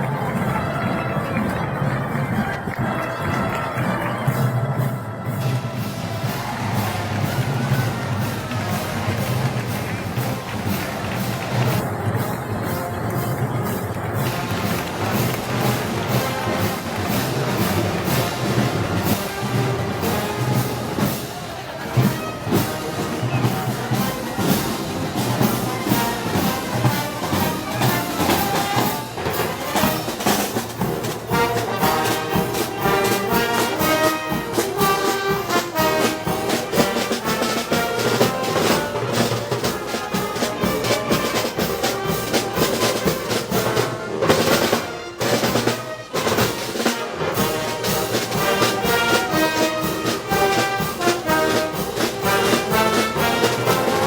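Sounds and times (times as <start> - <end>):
brass band playing: 0.0 - 54.0
steady drum beat: 1.8 - 54.0.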